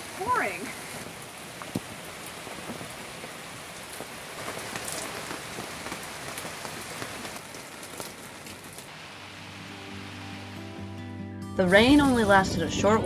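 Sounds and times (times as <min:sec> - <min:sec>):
heavy rain on canvas and deck: 0:00.0 - 0:11.0.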